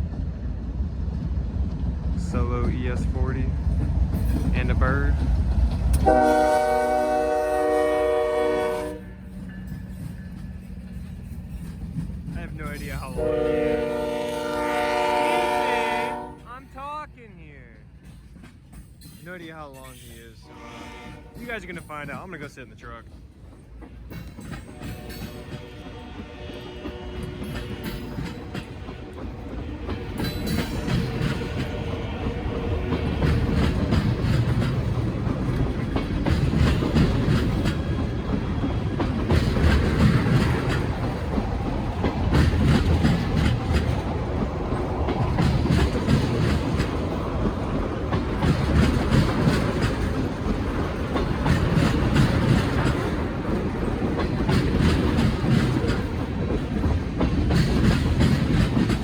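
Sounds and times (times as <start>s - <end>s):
train wheels clacking: 0.0s - 16.6s, 17.9s - 59.0s
freight train rumbling past: 0.0s - 59.0s.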